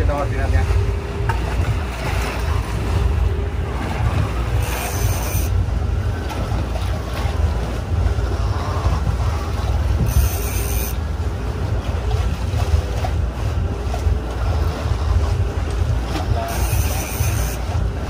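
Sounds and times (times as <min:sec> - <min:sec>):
boat engine rumble: 0:00.0 - 0:18.0
water washing: 0:00.0 - 0:18.0
wind buffeting microphone: 0:00.0 - 0:18.0.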